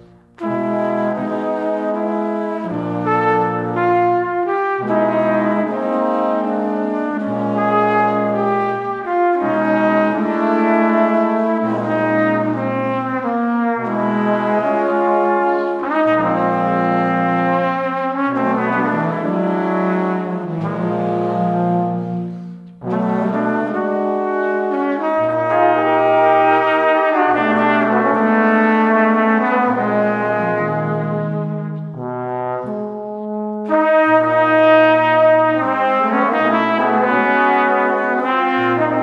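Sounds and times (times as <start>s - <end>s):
brass quartet playing chords: 0.0s - 39.0s.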